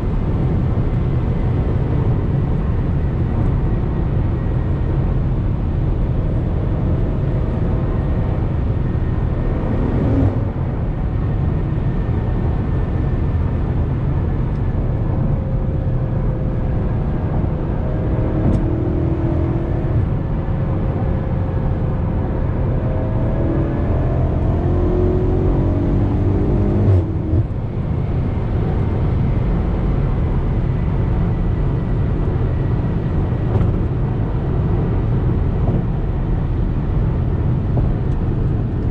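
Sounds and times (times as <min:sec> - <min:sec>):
car engine and exhaust drone: 0:00.0 - 0:38.9
road noise: 0:00.0 - 0:38.9.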